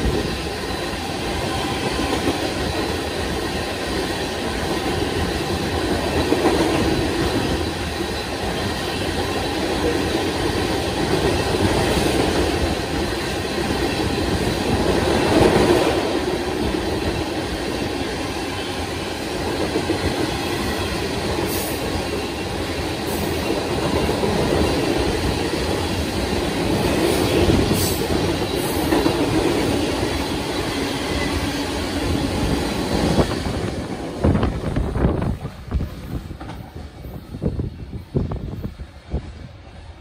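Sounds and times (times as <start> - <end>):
train wheels rumbling and clattering: 0.0 - 40.0.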